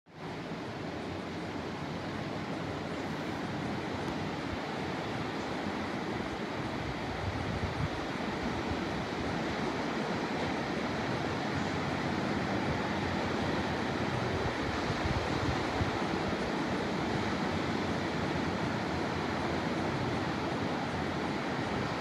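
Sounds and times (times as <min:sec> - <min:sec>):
ocean surf breaking: 0:01.8 - 0:22.0
wind on microphone: 0:04.0 - 0:22.0.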